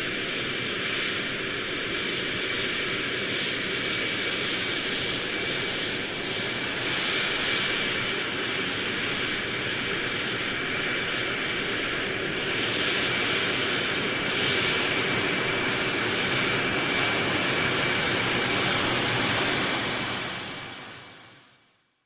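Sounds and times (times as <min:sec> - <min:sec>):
jet engine whine and roar: 0:00.0 - 0:21.8.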